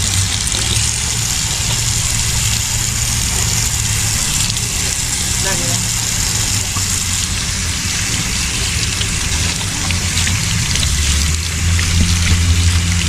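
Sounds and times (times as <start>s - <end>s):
vehicle engine idling: 0.0s - 13.0s
water running: 0.0s - 13.0s.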